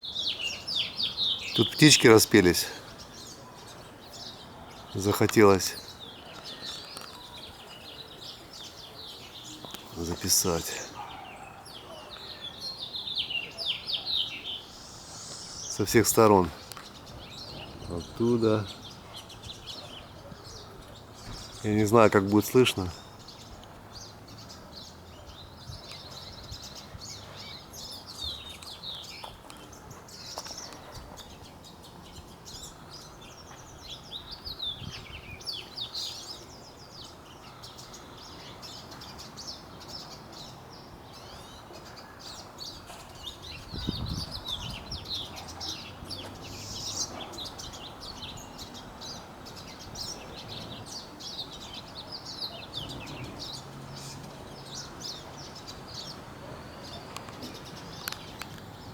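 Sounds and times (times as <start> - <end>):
songbirds chirping and trilling: 0.0 - 58.9.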